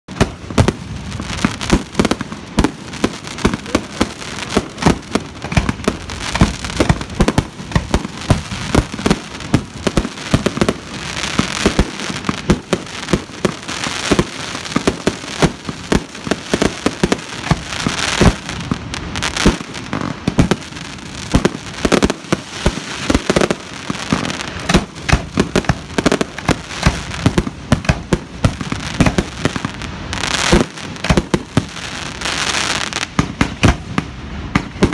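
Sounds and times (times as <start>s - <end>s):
fireworks bangs: 0.1s - 34.9s
fireworks popping and crackling: 0.1s - 34.9s.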